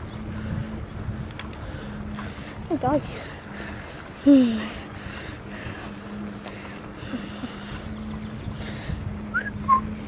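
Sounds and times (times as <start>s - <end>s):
steady low hum: 0.0s - 10.0s
wind buffeting microphone: 0.0s - 10.0s.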